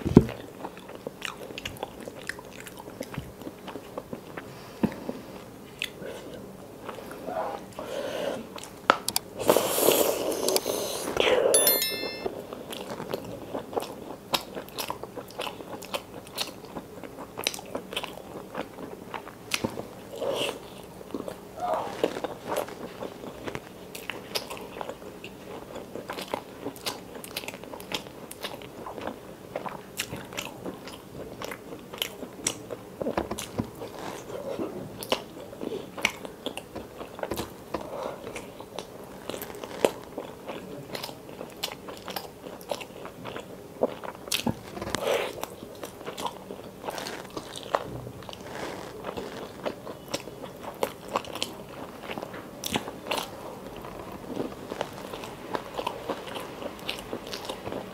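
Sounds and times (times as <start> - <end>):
close-miked chewing: 0.3 - 10.9, 12.8 - 57.9.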